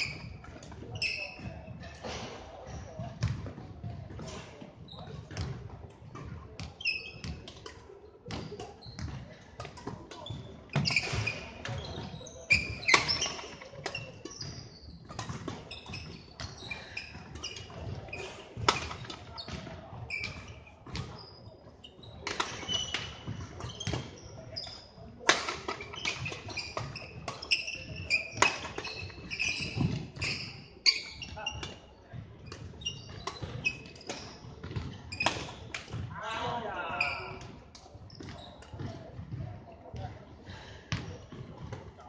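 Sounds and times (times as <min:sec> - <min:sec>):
shoes squeaking: 0:00.0 - 0:03.4, 0:04.0 - 0:05.6, 0:06.2 - 0:07.5, 0:08.2 - 0:40.2.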